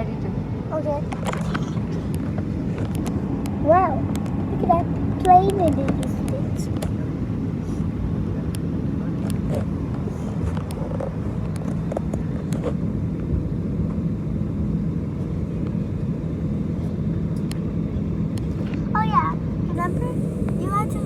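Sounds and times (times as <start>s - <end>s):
jet engines cabin hum: 0.0s - 21.0s.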